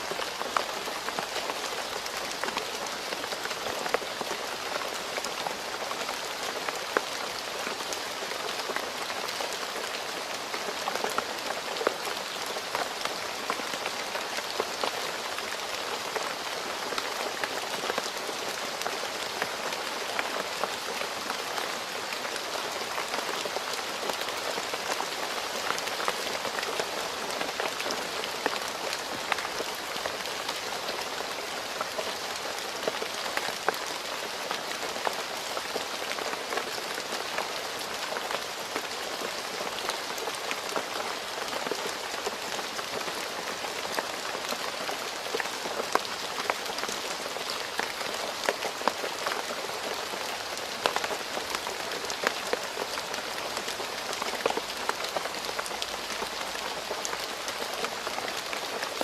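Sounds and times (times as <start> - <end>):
rain falling on a road: 0.0 - 59.0.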